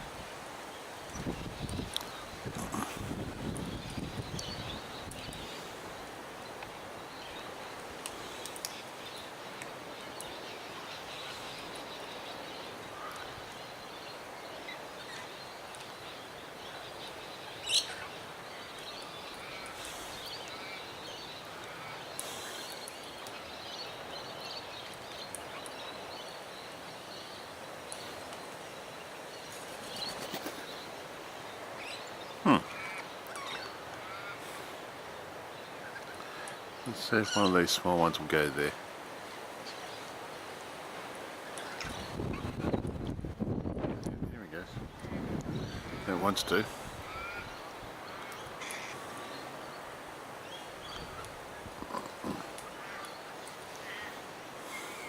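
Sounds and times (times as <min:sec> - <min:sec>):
outdoor background noise: 0:00.0 - 0:55.0
small birds chirping: 0:00.6 - 0:55.0.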